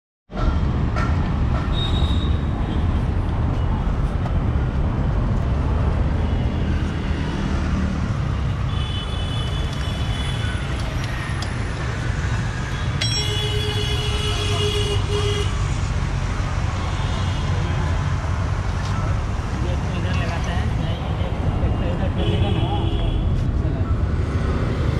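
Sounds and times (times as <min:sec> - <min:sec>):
road traffic rumble: 0:00.3 - 0:24.9.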